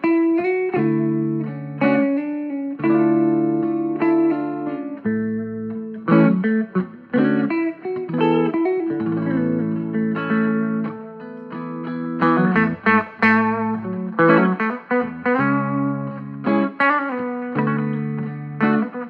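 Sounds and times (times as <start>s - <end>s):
overdriven electric guitar: 0.0s - 19.0s.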